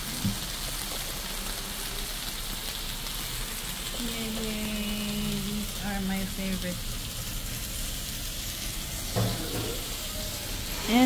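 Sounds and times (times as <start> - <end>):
meat sizzling on grill pan: 0.0 - 11.0.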